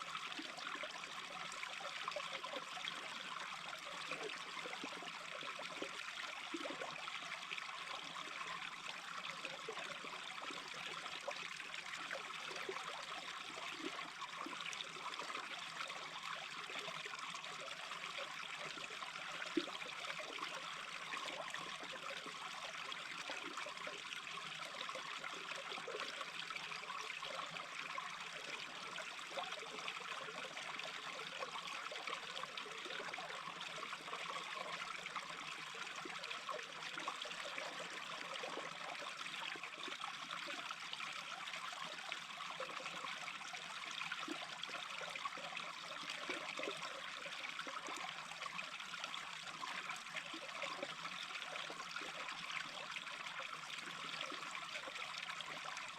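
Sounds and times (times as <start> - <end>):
brook babbling: 0.0 - 55.9.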